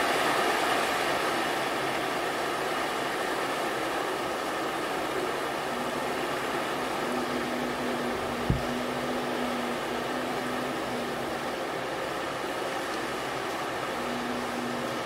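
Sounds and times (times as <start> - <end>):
surf rushing: 0.0 - 15.0.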